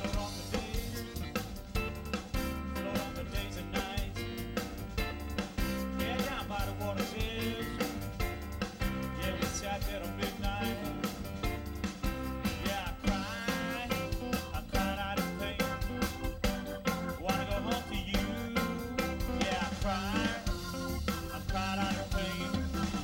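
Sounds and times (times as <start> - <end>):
bass: 0.0 - 23.0
steady drum beat: 0.0 - 23.0.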